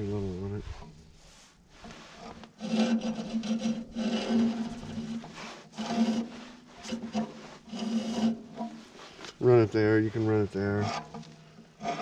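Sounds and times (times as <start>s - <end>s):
rasping scrapes on rubber belt: 1.8s - 9.4s, 10.0s - 12.0s.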